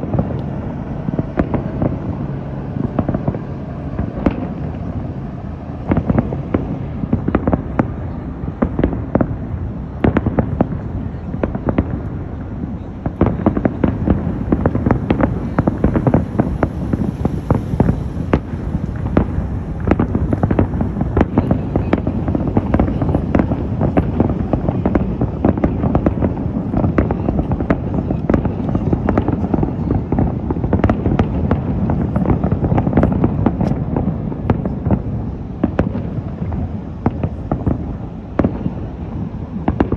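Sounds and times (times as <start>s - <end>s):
continuous rumble: 0.0s - 39.9s
fireworks booms and crackles: 0.0s - 39.9s.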